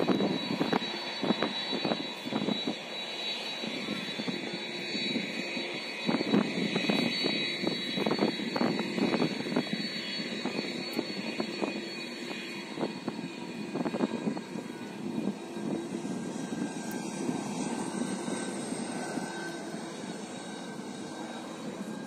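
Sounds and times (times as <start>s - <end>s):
faint high whine: 0.0s - 22.0s
jet engines rushing: 0.0s - 22.0s.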